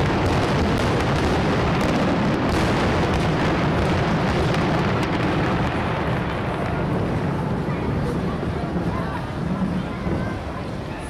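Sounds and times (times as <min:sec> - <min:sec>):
fireworks exploding: 0:00.0 - 0:09.0
sharp fireworks cracks: 0:00.0 - 0:10.2.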